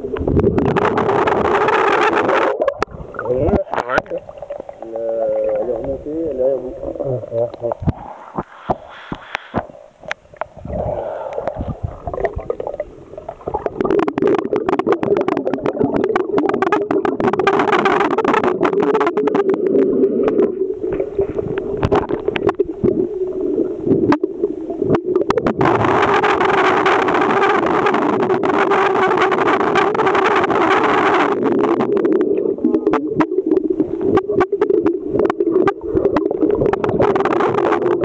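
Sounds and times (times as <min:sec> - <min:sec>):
underwater gurgling and crackling: 0:00.0 - 0:38.0.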